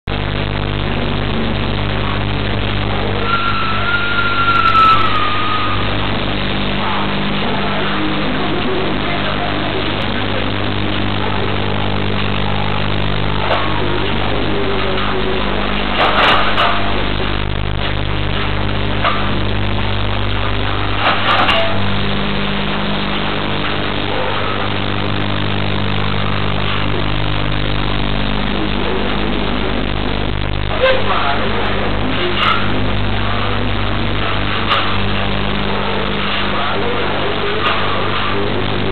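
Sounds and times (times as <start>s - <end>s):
steady low hum with hiss: 0.1s - 38.9s.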